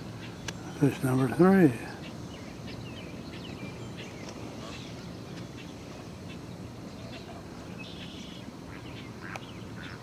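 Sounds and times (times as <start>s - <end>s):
bird chirps: 0.2s - 10.0s.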